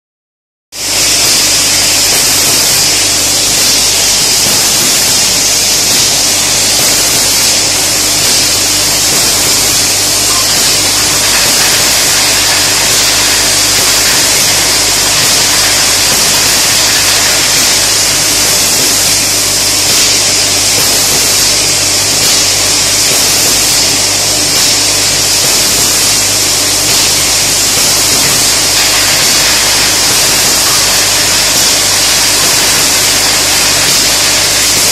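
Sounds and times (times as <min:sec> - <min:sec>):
conveyor hiss: 0:00.8 - 0:34.9
low machine hum: 0:00.9 - 0:34.9.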